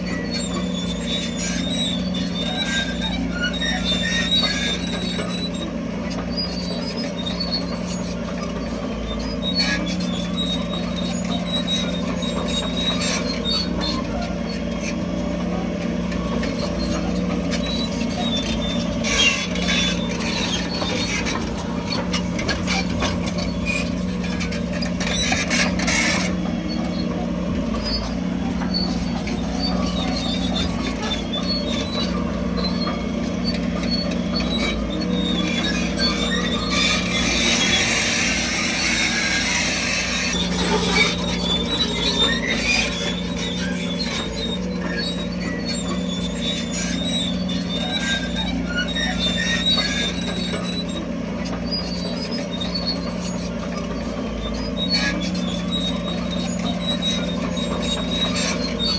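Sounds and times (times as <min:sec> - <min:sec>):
bulldozer diesel engine running: 0:00.0 - 0:58.9
squealing steel tracks: 0:00.0 - 0:58.9.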